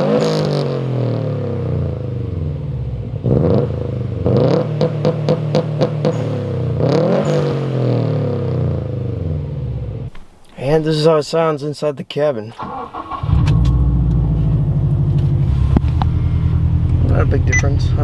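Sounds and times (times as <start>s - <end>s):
car engine revving with crackle: 0.0s - 10.6s, 12.6s - 17.9s.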